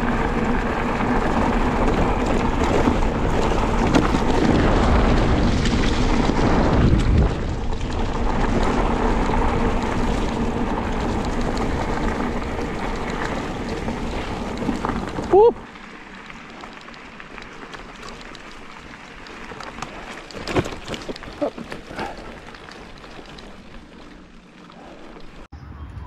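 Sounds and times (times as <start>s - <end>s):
tyres rumbling over dirt track: 0.0s - 25.5s.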